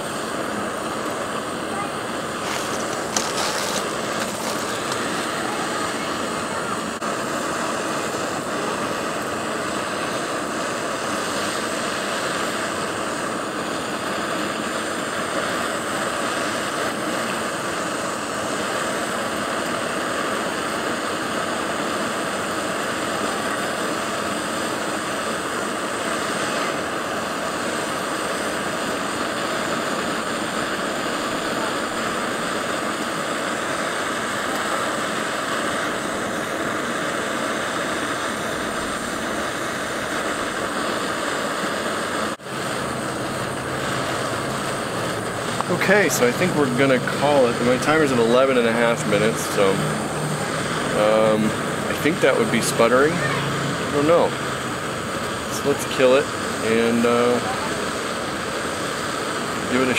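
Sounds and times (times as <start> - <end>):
camping stove burner hissing: 0.0 - 59.9.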